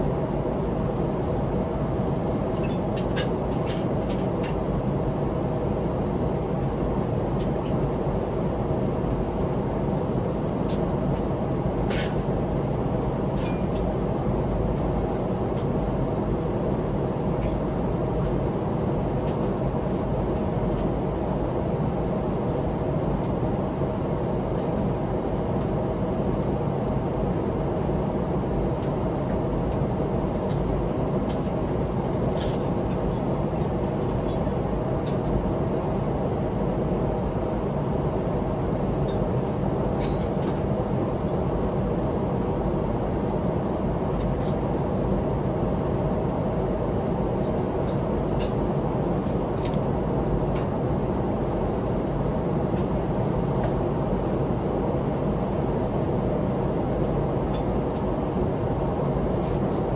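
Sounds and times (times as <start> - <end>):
airliner cabin roar: 0.0 - 59.9.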